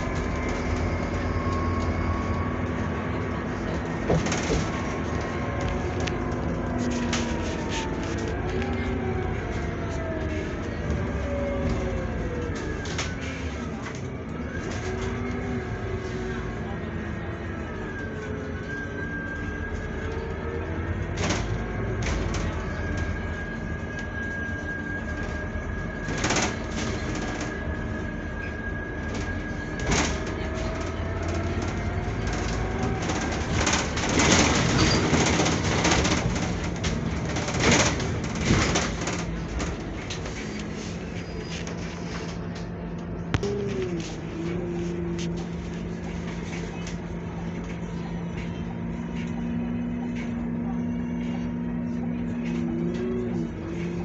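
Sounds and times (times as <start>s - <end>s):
bus body rattling: 0.0s - 54.0s
bus engine whining: 0.0s - 54.0s
road noise: 0.0s - 54.0s.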